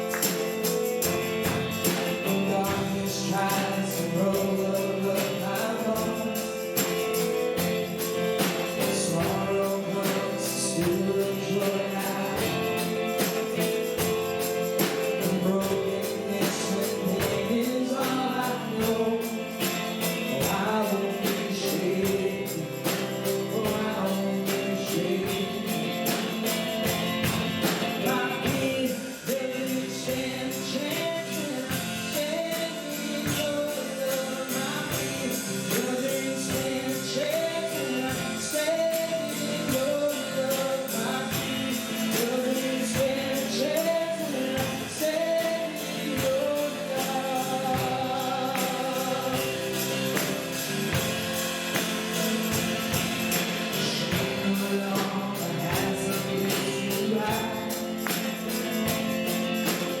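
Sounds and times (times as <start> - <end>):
band with percussion beat: 0.0 - 60.0
voices singing gospel song: 0.0 - 60.0.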